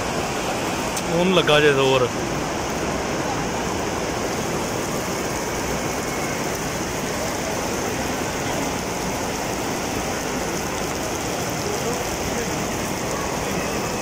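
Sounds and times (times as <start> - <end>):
heavy rain on stone: 0.0 - 14.0.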